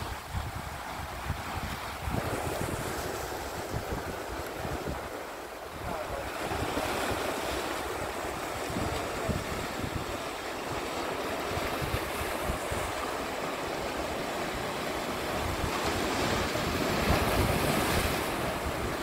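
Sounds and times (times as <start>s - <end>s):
surf washing over rocks: 0.0s - 19.0s
wind buffeting microphone: 0.0s - 19.0s.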